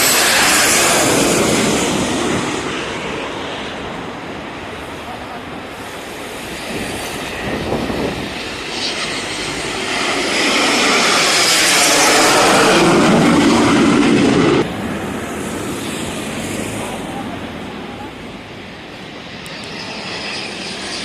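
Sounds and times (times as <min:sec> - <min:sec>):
jets flying past: 0:00.0 - 0:21.0.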